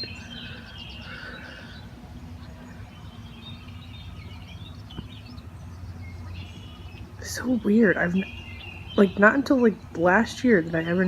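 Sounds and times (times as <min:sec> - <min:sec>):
faint bird calls: 0:00.0 - 0:09.8
low outdoor rumble: 0:00.0 - 0:11.0.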